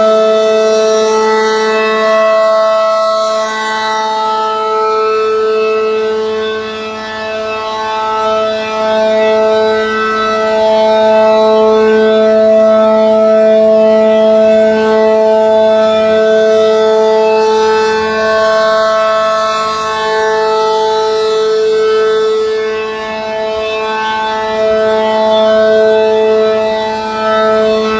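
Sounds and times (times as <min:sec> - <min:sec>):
warning siren two-note tone: 0:00.0 - 0:27.9.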